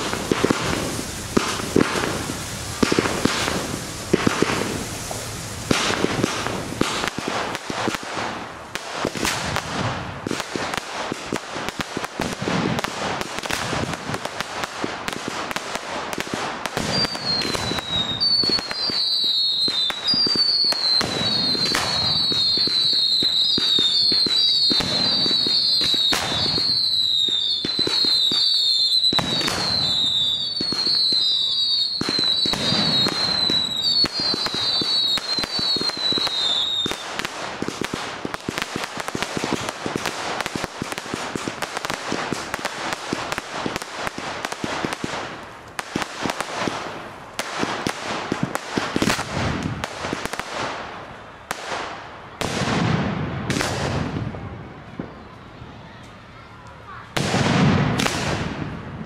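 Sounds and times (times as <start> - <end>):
fireworks bangs and crackling: 0.0 - 59.0
whistling fireworks falling in pitch: 0.0 - 59.0.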